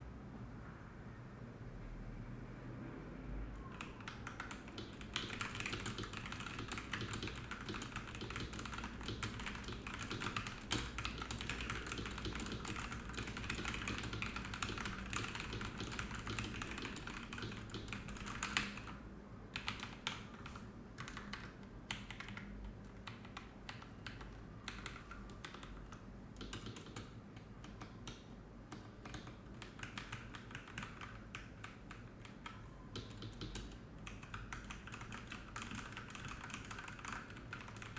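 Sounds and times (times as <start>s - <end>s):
mechanical keyboard typing: 3.7s - 37.9s.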